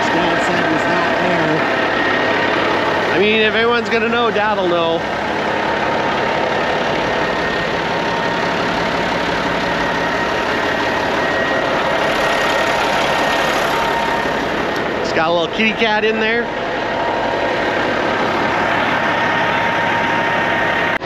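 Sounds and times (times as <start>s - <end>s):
faint steady whine: 0.0s - 21.0s
truck engine idling: 0.0s - 21.0s.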